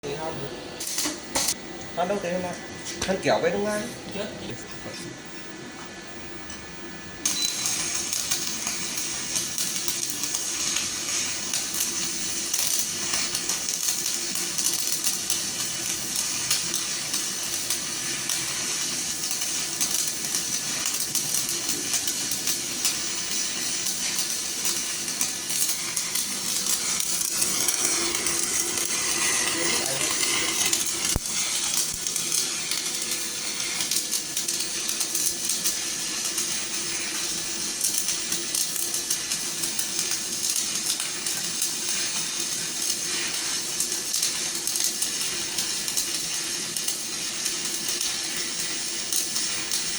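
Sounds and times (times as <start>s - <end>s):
welding arc crackling hiss: 0.0s - 5.2s, 7.2s - 49.9s.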